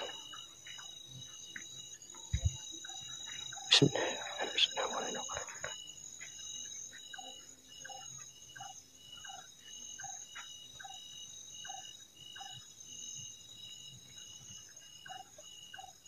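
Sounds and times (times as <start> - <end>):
insect chirps: 0.0 - 16.0
insects trilling: 0.0 - 16.0
low insect pips: 0.0 - 16.0.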